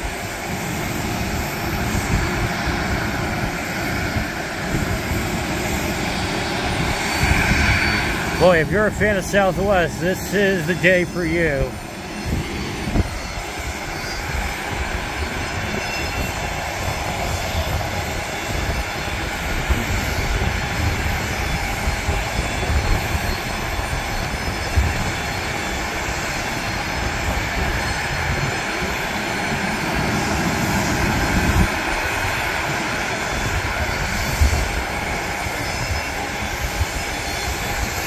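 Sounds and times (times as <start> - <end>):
wind on microphone: 0.0 - 10.1, 11.6 - 38.0
airport ramp rumble and hiss: 0.0 - 38.0.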